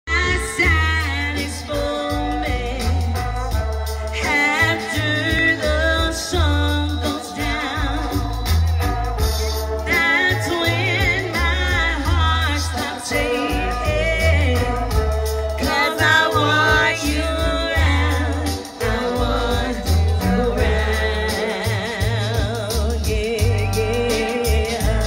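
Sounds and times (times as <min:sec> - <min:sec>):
deep pulsing bass line: 0:00.1 - 0:25.0
singer with vibrato: 0:00.1 - 0:25.0.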